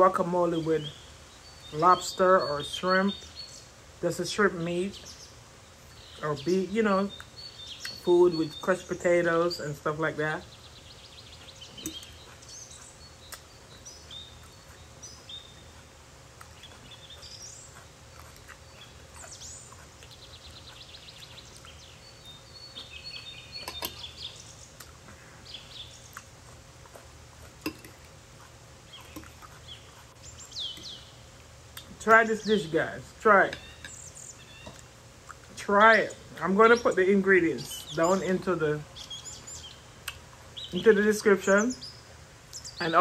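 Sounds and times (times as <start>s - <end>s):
faint steady hum: 0.0s - 43.0s
small birds chirping: 0.0s - 43.0s.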